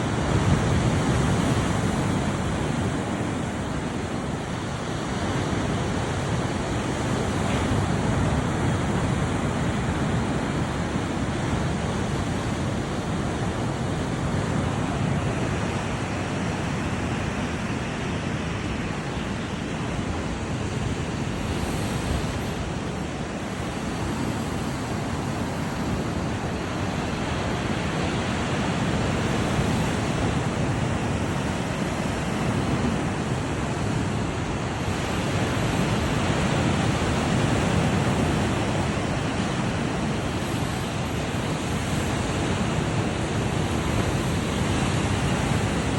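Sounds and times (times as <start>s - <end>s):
waves washing onto shore: 0.0s - 45.9s
wind on microphone: 0.0s - 45.9s.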